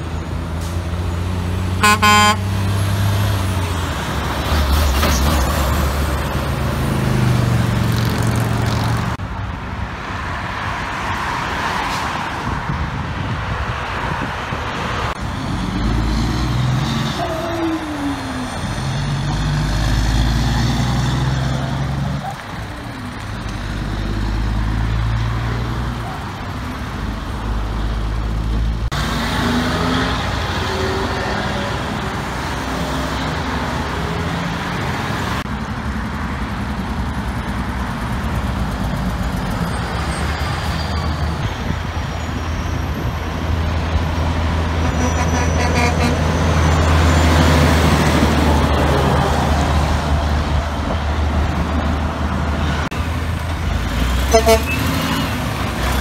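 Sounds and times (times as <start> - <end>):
dump truck diesel engines: 0.0 - 56.0
road and traffic noise: 0.0 - 56.0.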